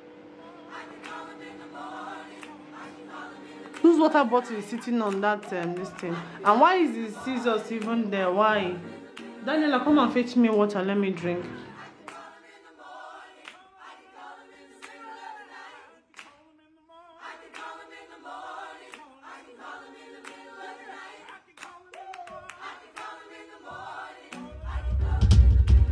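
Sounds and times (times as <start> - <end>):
choral singing: 0.0 - 25.9.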